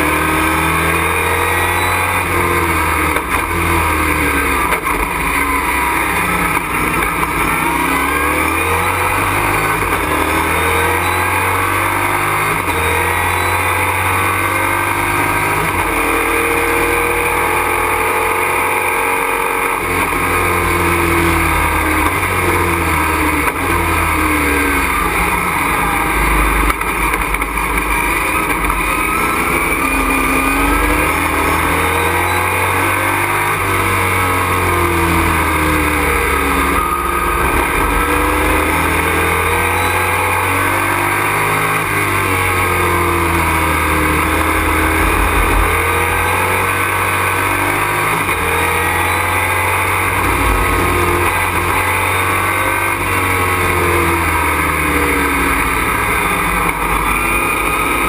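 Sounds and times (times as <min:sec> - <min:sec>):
race truck engine revving: 0:00.0 - 0:58.0
road and wind noise: 0:00.0 - 0:58.0.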